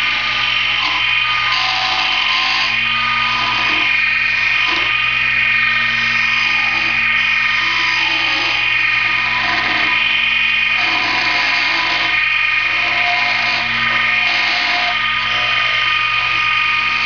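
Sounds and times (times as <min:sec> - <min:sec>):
lathe motor whine: 0:00.0 - 0:17.0.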